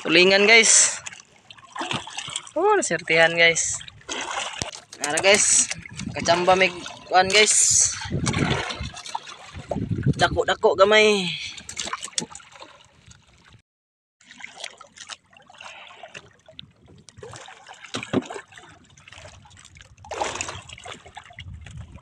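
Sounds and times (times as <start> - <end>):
water lapping and trickling: 0.0 - 13.6, 14.2 - 22.0.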